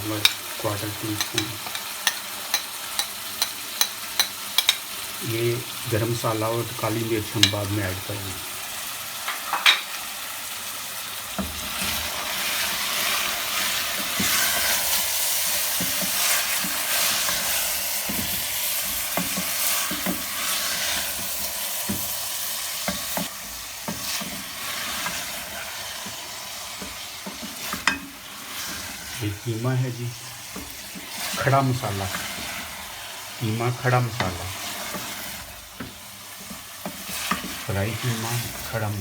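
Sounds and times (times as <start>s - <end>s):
food sizzling in a pot: 0.0s - 39.0s.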